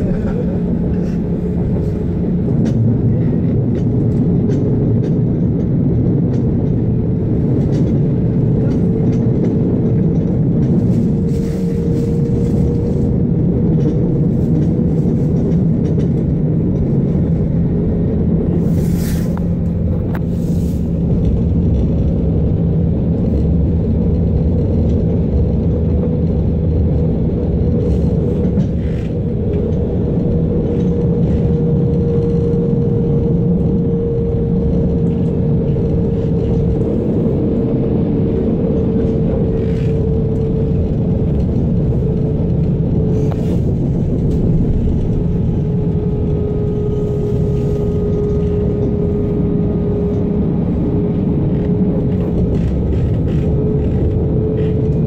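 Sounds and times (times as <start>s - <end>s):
electric train whine: 0.0s - 55.0s
train wheels rumbling on rail: 0.0s - 55.0s.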